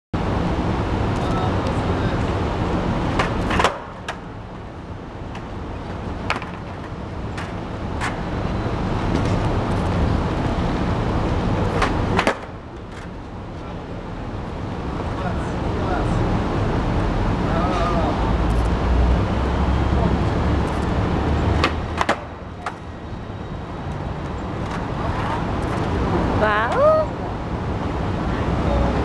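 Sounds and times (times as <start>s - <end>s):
street traffic rumble: 0.2s - 29.0s.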